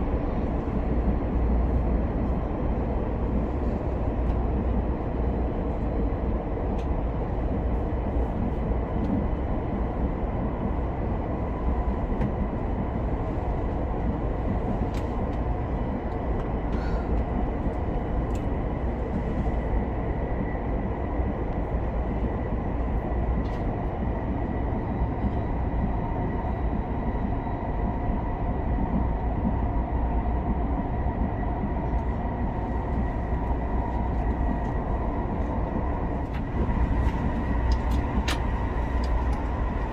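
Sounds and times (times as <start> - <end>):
train interior rumble: 0.0 - 39.9.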